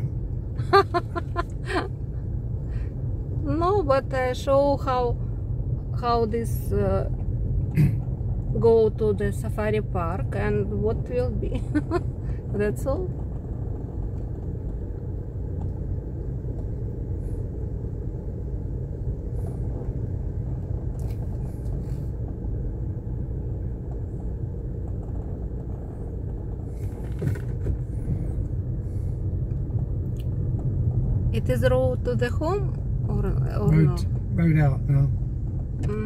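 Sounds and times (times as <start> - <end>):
car engine and tyres rumbling: 0.0 - 36.0.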